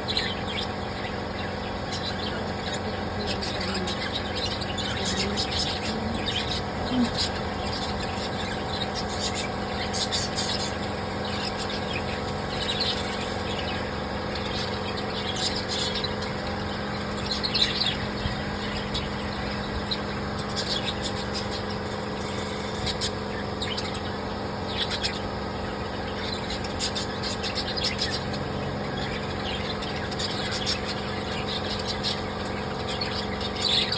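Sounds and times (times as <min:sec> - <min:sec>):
small birds chirping: 0:00.0 - 0:33.9
steady low hum: 0:00.0 - 0:33.9.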